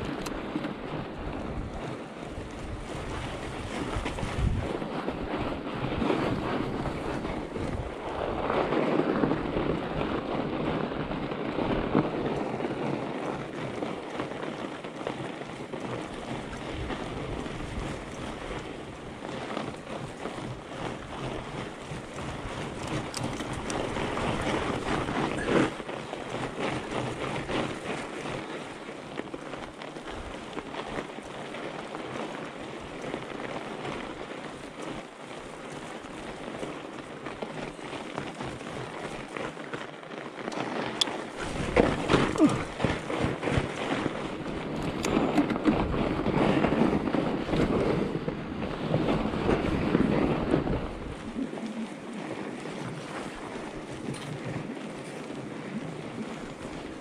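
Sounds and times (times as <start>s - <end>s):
wind rumble on microphone: 0.0s - 57.0s
tyres crunching over snow: 1.4s - 57.0s.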